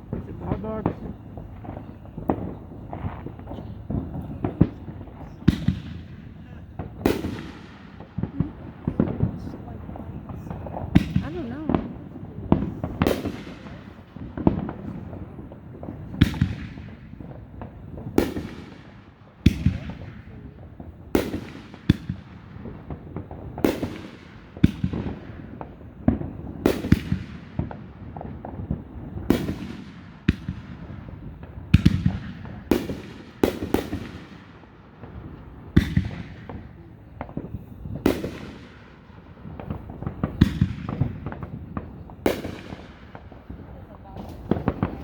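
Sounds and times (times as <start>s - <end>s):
firework bangs with rumbling echo: 0.0s - 45.0s.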